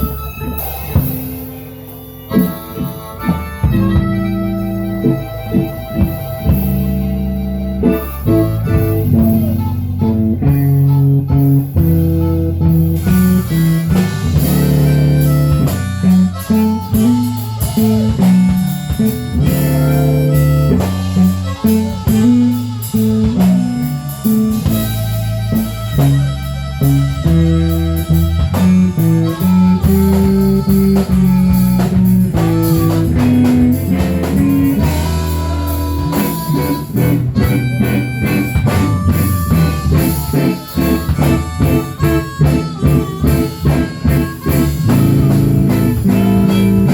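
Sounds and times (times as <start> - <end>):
blues band playing: 0.0 - 46.9
harmonica: 0.0 - 46.9.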